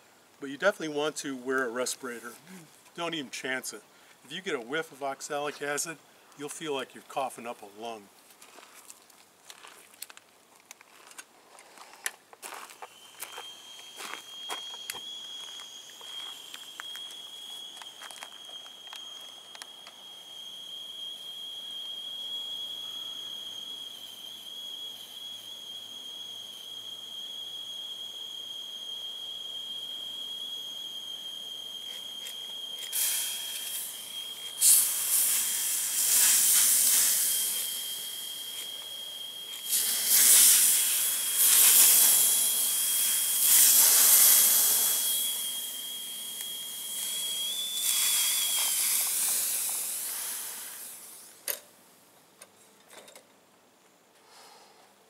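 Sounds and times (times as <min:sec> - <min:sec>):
steady high whistle: 0:00.0 - 0:08.1, 0:12.4 - 0:51.5
insect fogger hissing spurts: 0:01.3 - 0:09.4, 0:11.8 - 0:51.5.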